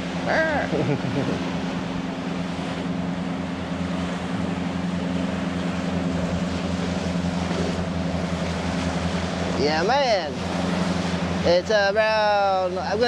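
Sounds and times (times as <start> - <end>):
boat engines humming: 0.0 - 13.0
surf: 0.0 - 13.0
wind: 0.0 - 13.0.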